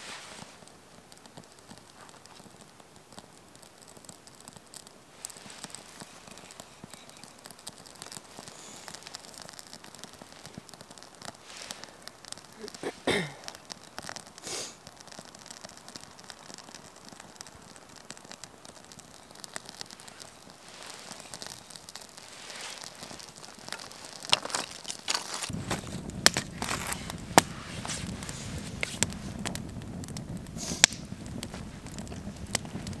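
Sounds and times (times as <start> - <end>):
flame rushing: 0.0 - 33.0
wood fire crackling: 0.0 - 33.0.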